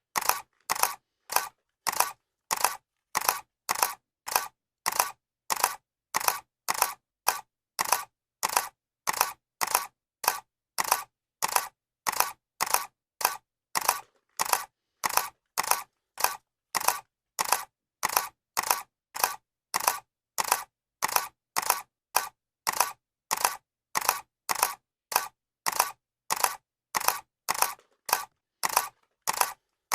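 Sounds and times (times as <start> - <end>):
camera shutter clicking: 0.1 - 29.9.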